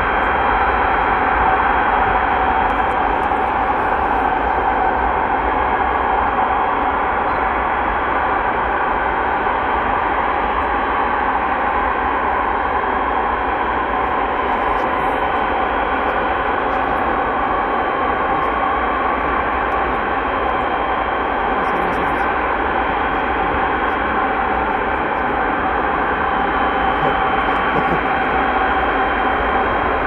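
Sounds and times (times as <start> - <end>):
jet engines droning with whine: 0.0 - 30.0.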